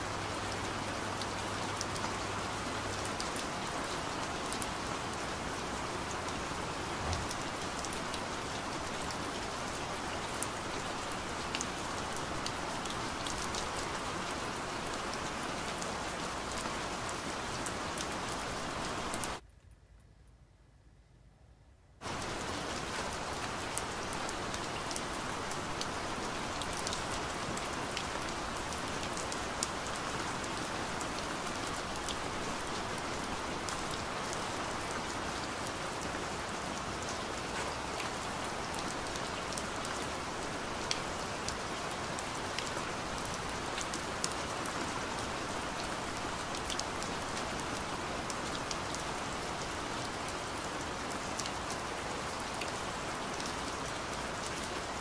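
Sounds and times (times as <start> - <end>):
steady rain hiss: 0.0 - 19.4, 22.0 - 55.0.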